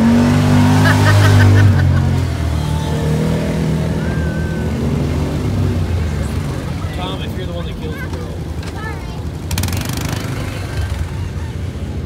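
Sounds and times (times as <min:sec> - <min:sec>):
engine revving in mud: 0:00.0 - 0:07.4, 0:08.6 - 0:12.0.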